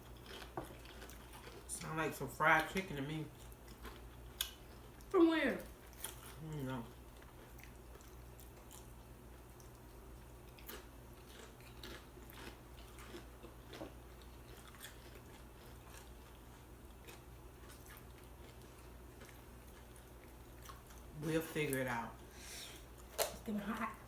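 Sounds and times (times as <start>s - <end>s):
chewing and crunching chips: 0.0s - 24.0s
steady low hum: 0.0s - 24.0s.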